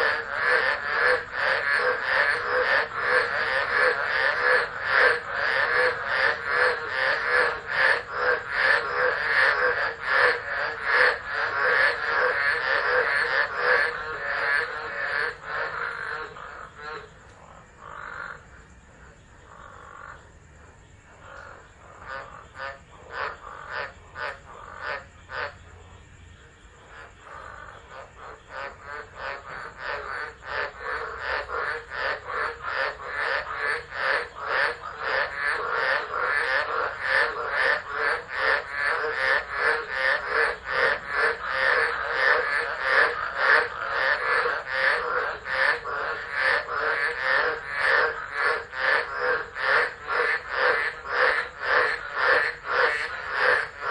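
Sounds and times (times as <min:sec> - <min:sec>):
frogs calling in chorus: 0:00.0 - 0:53.9.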